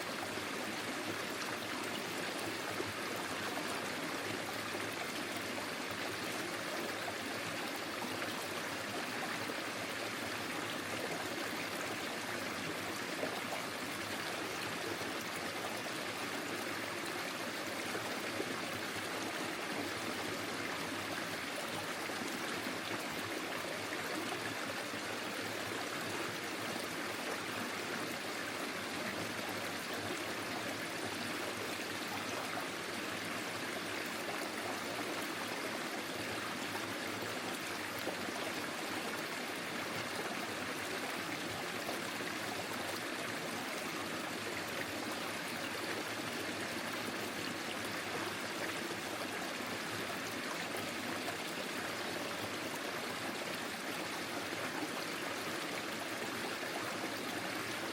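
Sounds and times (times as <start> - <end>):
stream trickling over stones: 0.1 - 57.9.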